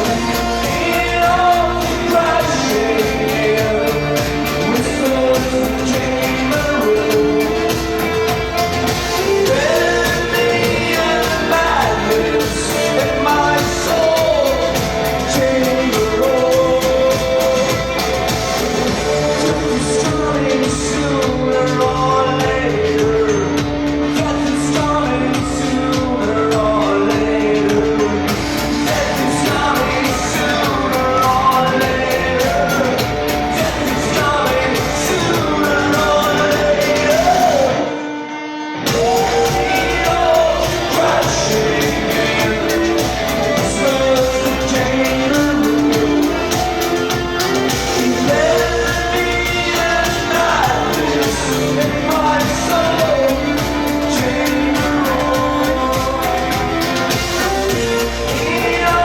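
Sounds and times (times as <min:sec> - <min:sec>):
live band playing: 0:00.0 - 0:59.0
person singing lead vocal: 0:00.0 - 0:59.0.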